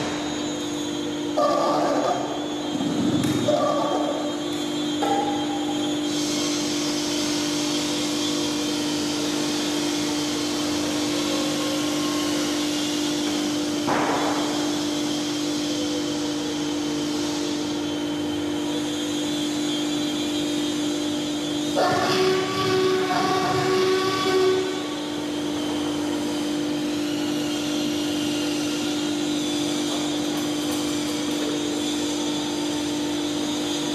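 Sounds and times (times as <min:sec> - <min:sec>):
electric motor hum: 0:00.0 - 0:33.9.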